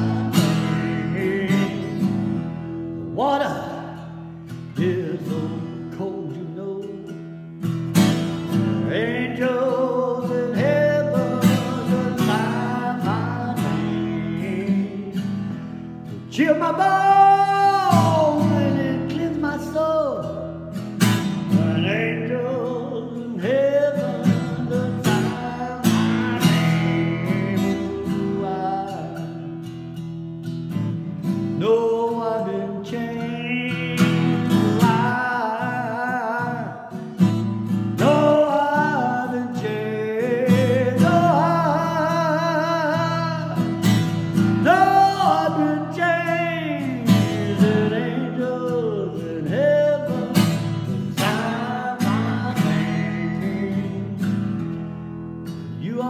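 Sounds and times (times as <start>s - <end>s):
man singing: 0.0s - 30.0s, 31.2s - 54.8s, 55.6s - 56.0s
acoustic guitar strumming: 0.0s - 56.0s.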